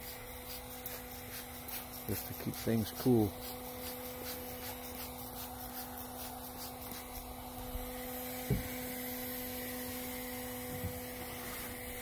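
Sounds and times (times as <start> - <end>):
heat gun humming: 0.0 - 12.0.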